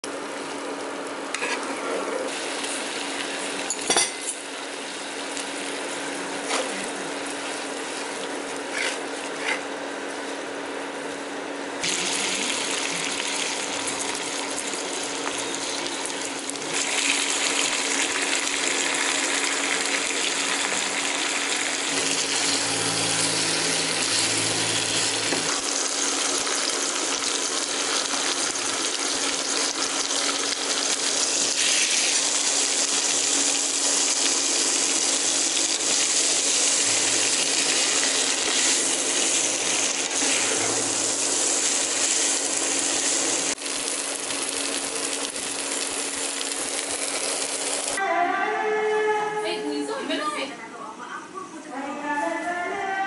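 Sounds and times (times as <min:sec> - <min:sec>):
seafood sizzling in a frying pan: 0:02.3 - 0:08.7, 0:11.8 - 0:48.0.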